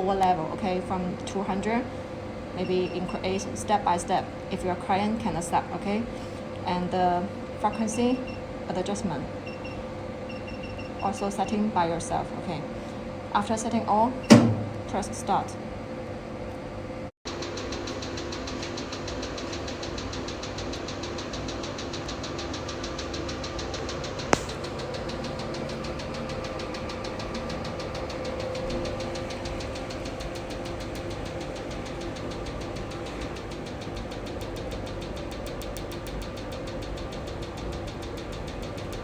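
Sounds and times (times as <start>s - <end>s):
water-cooling system hum: 0.0s - 39.0s.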